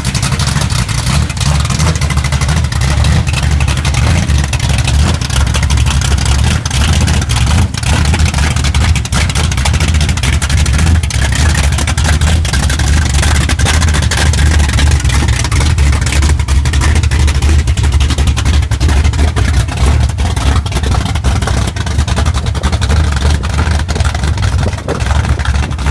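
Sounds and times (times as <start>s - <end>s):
loud car engine running: 0.0s - 25.9s.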